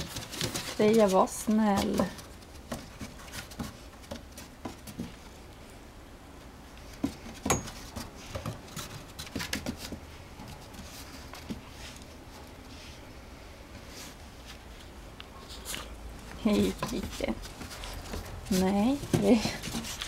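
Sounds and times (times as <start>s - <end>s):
paws and claws on wooden boards: 0.0s - 5.6s, 6.8s - 13.0s, 13.8s - 20.0s.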